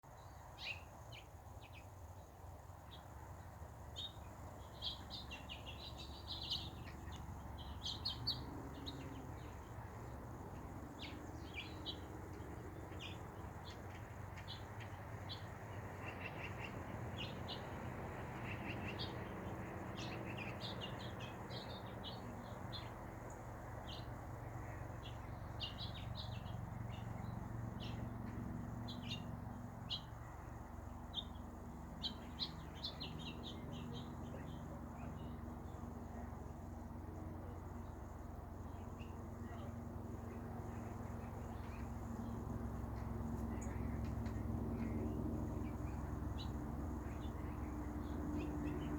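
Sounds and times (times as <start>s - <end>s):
birds chirping: 3.9s - 30.4s, 31.0s - 36.7s, 37.4s - 48.9s.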